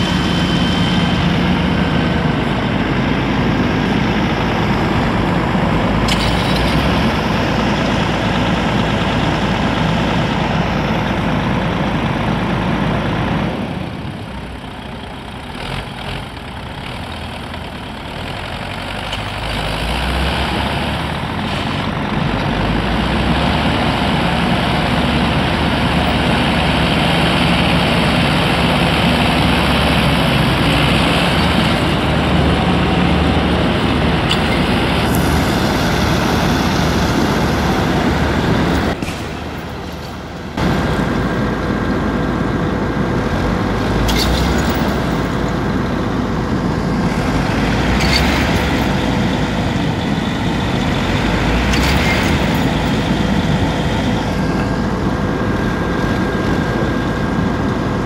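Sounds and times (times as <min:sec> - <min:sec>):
heavy diesel engines: 0:00.0 - 0:58.0.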